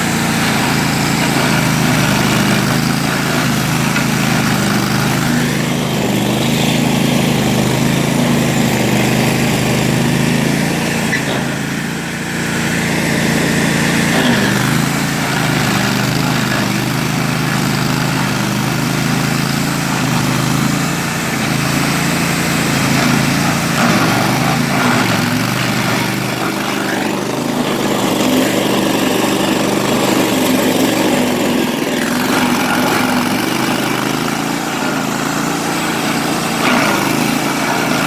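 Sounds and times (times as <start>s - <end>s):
stump grinder engine running: 0.0s - 38.0s.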